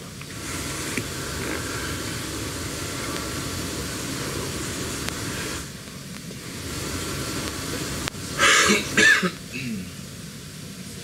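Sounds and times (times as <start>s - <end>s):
low rumble with hiss: 0.0s - 11.0s.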